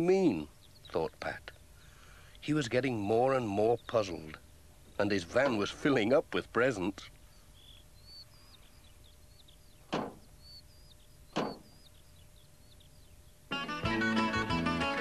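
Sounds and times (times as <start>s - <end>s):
birdsong chirping: 0.0s - 14.6s.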